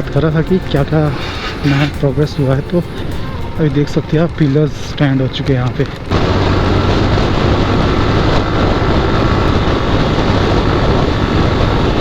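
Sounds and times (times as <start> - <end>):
motorcycle engine cruising: 0.0 - 12.0
wind rush on microphone: 0.0 - 12.0.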